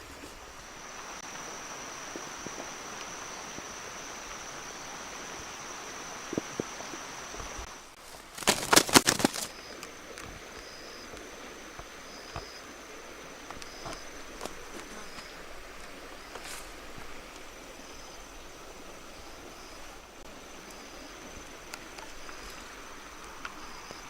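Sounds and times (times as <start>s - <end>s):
insect chirps: 0.0s - 24.0s
soft outdoor hiss: 0.0s - 24.0s
insect trilling: 0.3s - 24.0s.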